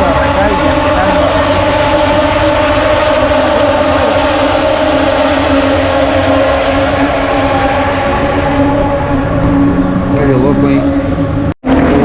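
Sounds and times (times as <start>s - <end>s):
loud engine drone: 0.0s - 12.0s
rushing noise: 0.0s - 12.0s.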